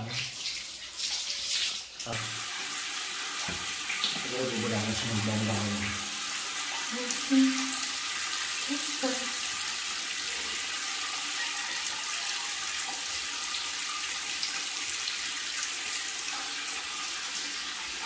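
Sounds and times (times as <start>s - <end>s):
water running from a tap: 0.0s - 18.0s.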